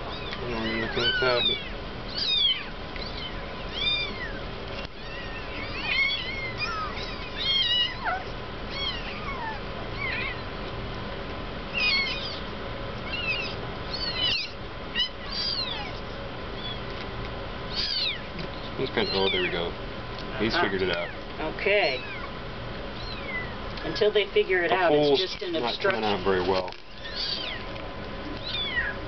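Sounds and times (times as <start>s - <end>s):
kittens mewing: 0.0s - 10.5s, 11.7s - 16.9s, 17.7s - 19.7s, 20.4s - 24.1s, 24.7s - 29.0s.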